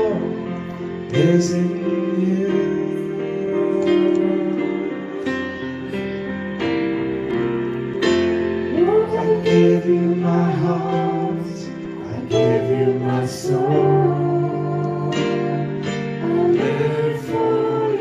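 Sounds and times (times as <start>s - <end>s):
electric keyboard chords: 0.0s - 18.0s.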